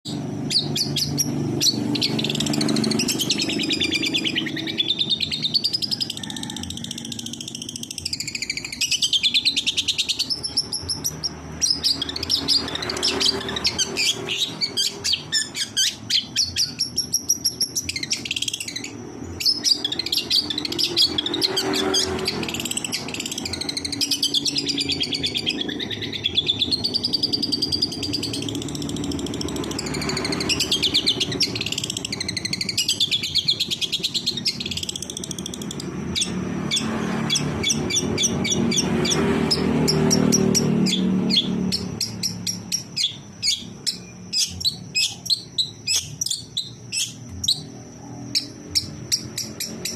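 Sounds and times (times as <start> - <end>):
bird singing warbled song: 0.0 - 49.9.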